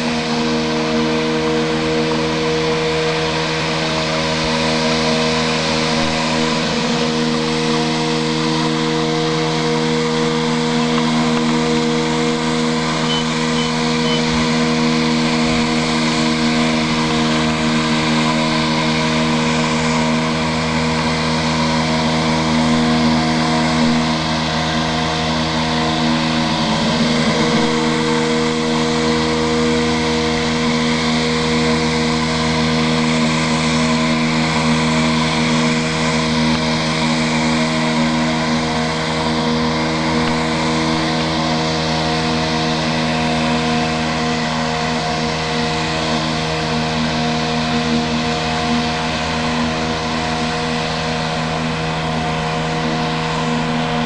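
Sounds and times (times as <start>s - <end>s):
electric mower motor whining: 0.0s - 54.0s.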